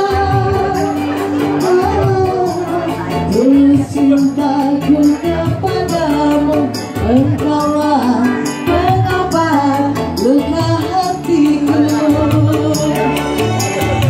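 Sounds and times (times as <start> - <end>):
bass: 0.0 - 14.0
percussion beat: 0.0 - 14.0
woman singing: 0.0 - 14.0.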